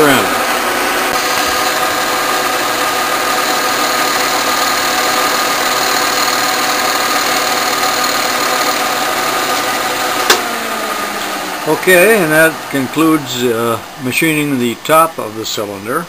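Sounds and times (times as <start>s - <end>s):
milling machine cutting metal: 0.0s - 14.1s.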